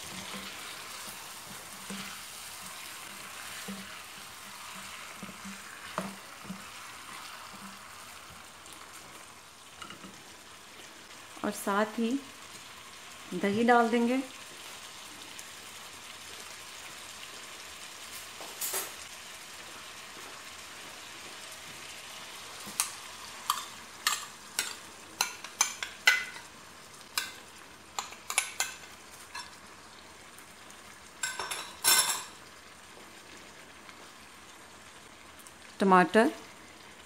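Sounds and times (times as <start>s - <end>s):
chicken sizzling in a pan: 0.0s - 37.0s.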